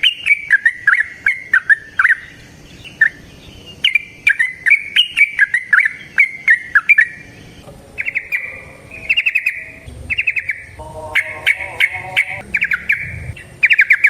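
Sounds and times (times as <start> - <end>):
bird warbling and trilling: 0.0 - 14.0
lower-pitched bird call: 0.0 - 14.0.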